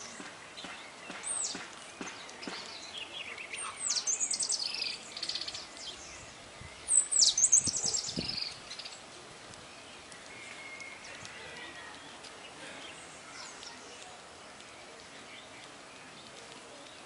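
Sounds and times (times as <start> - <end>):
songbird singing trills: 0.0 - 17.0.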